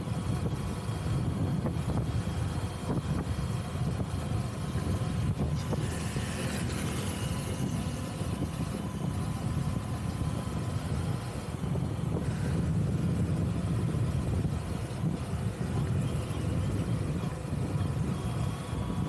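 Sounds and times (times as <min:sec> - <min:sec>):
vehicle engine and road rumble: 0:00.0 - 0:19.0
wind and tyre hiss: 0:00.0 - 0:19.0.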